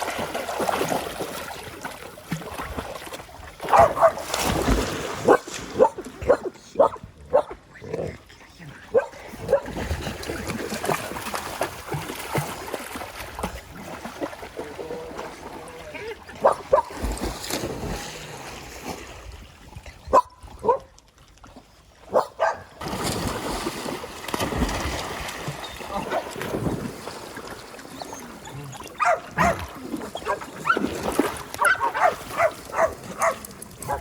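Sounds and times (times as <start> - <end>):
water splashing in pool: 0.0 - 8.1, 9.0 - 34.0.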